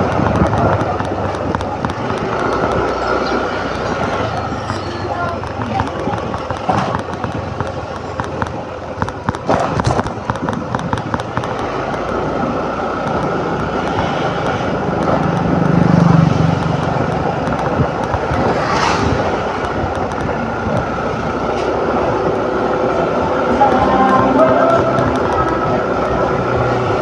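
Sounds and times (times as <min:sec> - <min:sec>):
scooter engine: 0:00.0 - 0:27.0
wind buffeting microphone: 0:00.0 - 0:27.0.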